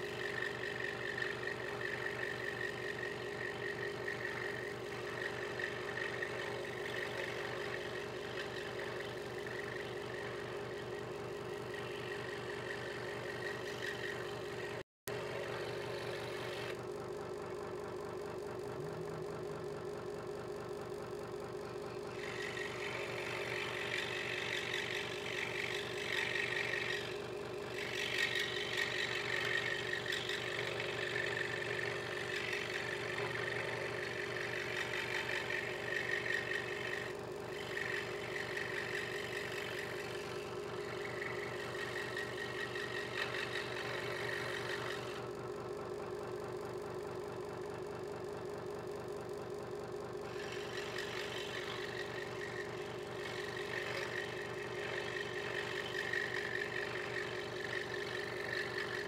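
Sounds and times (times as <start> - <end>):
saw blade cutting wood: 0.0 - 16.8, 22.1 - 45.3, 50.3 - 59.0
scroll saw motor hum: 0.0 - 59.0.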